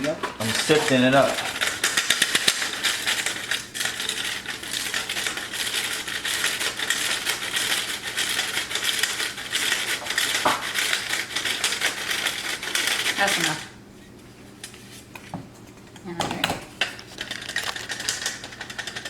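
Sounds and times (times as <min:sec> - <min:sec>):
flour sifter rattling and scraping: 0:00.0 - 0:13.8, 0:16.9 - 0:19.0.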